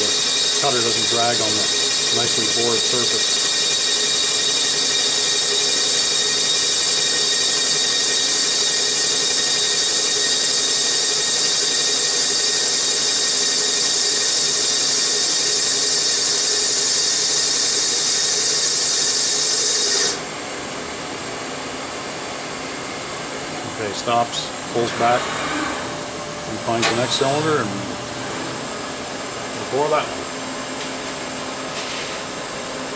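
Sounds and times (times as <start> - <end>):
milling spindle high whine: 0.0 - 32.9
steady machine hum: 0.0 - 32.9.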